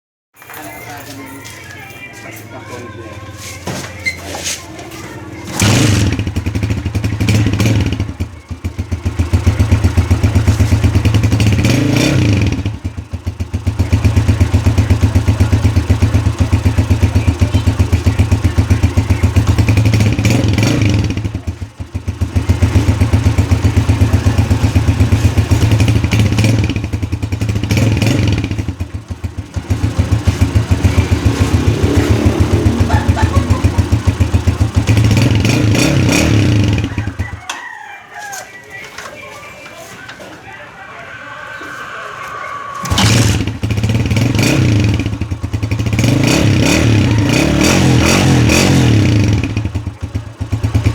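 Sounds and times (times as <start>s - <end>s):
motorcycle engine idling: 0.4s - 41.9s, 42.8s - 50.9s
motorcycle engine revving: 3.5s - 37.8s, 41.1s - 50.9s.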